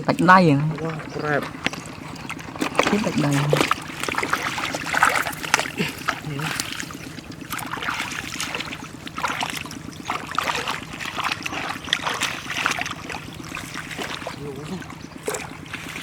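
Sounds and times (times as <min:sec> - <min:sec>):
low motor hum: 0:00.0 - 0:16.0
water splashing and trickling: 0:00.0 - 0:16.0.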